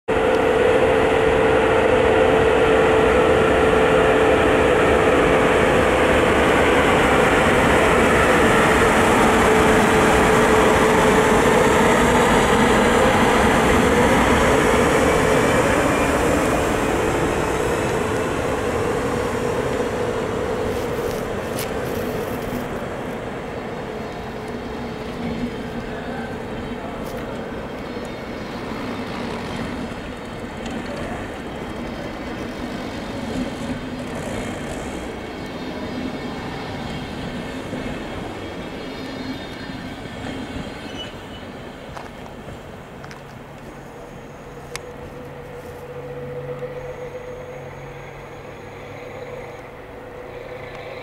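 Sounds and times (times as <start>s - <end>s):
locomotive whine: 0.1s - 51.0s
train wheels on rails: 0.1s - 51.0s.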